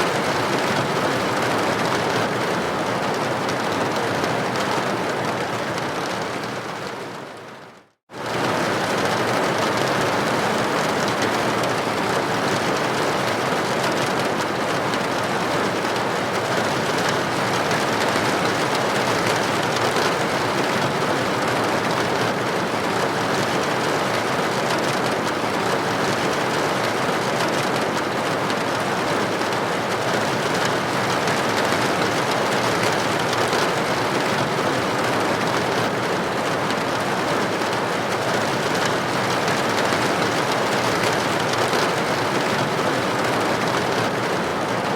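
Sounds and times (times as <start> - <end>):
rain hitting a window: 0.1 - 44.9.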